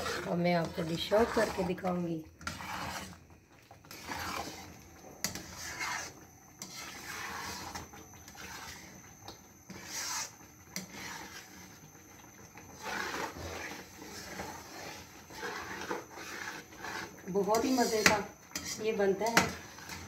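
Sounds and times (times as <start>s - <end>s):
spoon scraping pudding in wok: 0.0s - 11.9s, 12.5s - 20.0s.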